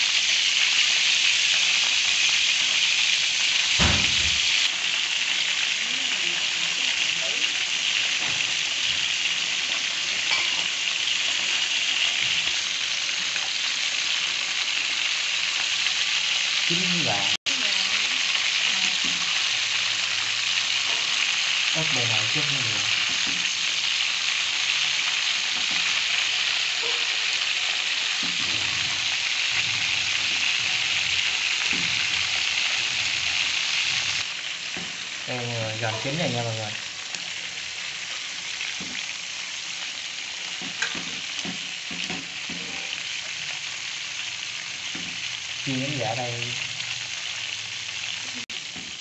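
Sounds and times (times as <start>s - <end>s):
food sizzling in oil: 0.0s - 49.0s.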